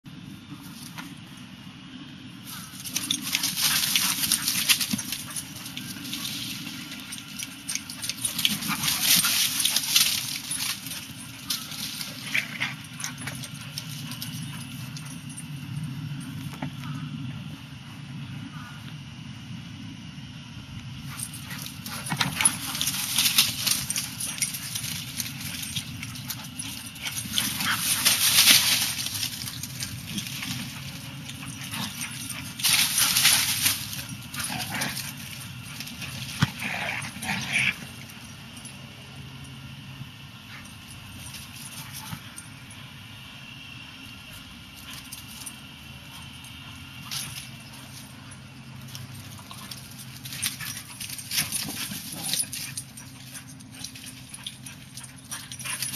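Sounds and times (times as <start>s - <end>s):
dogs playing: 0.2s - 18.9s, 20.8s - 55.9s.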